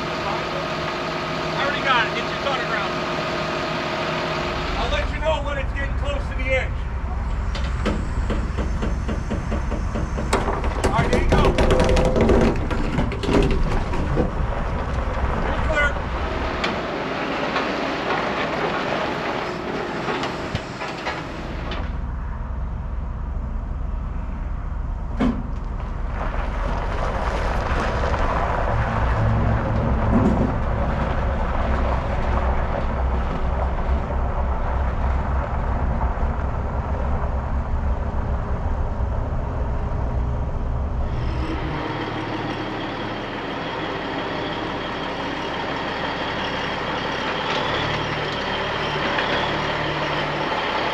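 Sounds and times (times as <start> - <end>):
truck engine rumbling: 0.0 - 50.9.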